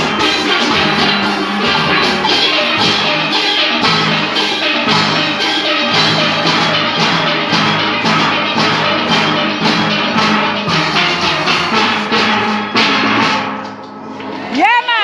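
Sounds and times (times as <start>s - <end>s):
steel band playing: 0.0s - 15.0s.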